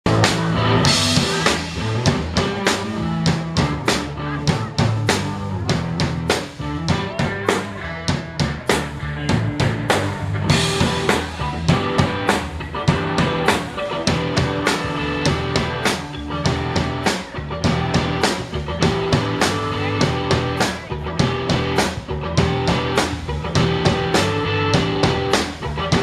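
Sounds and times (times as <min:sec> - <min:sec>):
drum kit: 0:00.0 - 0:26.0
live band playing: 0:00.0 - 0:26.0.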